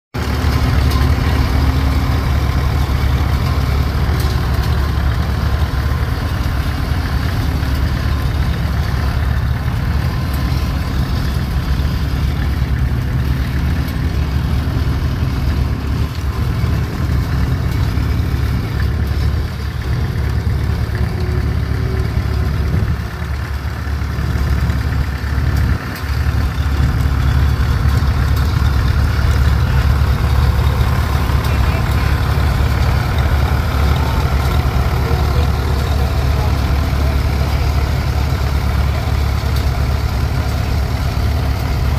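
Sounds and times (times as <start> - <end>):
tractor engine running: 0.1 - 41.9.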